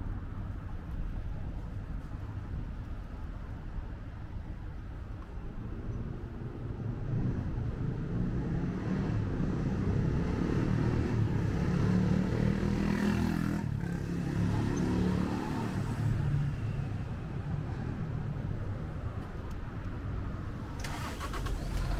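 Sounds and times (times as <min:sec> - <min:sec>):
low traffic rumble: 0:00.0 - 0:21.9.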